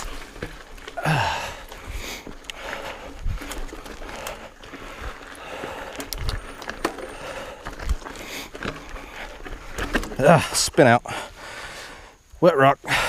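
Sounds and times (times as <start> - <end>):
wheels thumping on rocks: 0.0 - 11.3
bike rattling and clicking: 0.0 - 12.0
tyres hissing on dirt and rock: 0.0 - 13.0.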